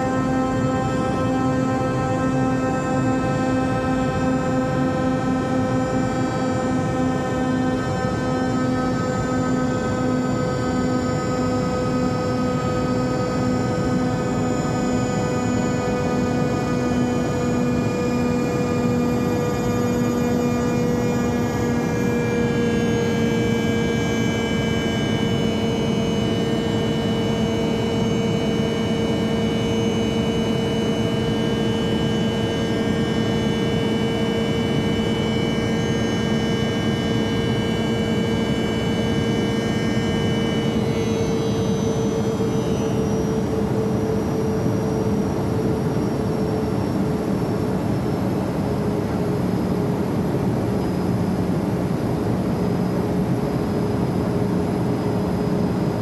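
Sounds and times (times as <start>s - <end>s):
high whining engine tones: 0.0s - 56.0s
jet engines roaring: 0.0s - 56.0s.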